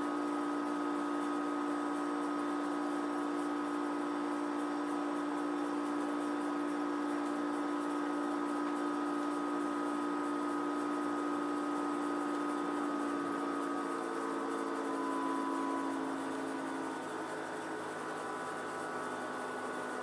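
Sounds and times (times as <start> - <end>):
air conditioner humming and whining: 0.0 - 20.0.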